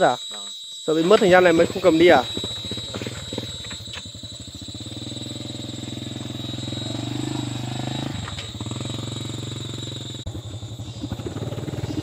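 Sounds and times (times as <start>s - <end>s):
small motorbike engine running: 1.2s - 12.0s.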